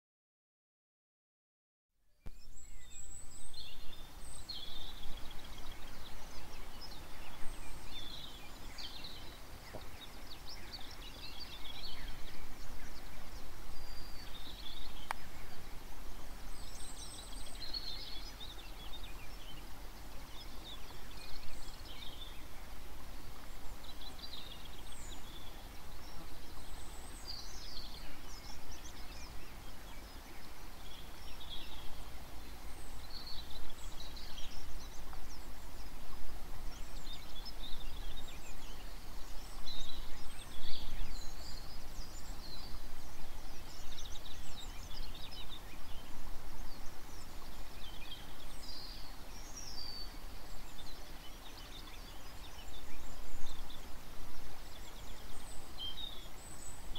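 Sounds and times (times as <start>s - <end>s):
wild birds chirping and trilling: 2.2s - 56.9s.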